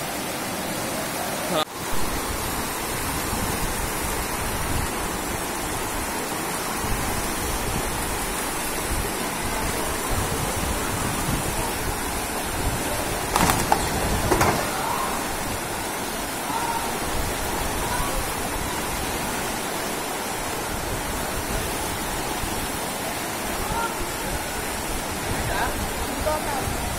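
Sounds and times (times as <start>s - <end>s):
floodwater rushing down street: 0.0s - 26.9s.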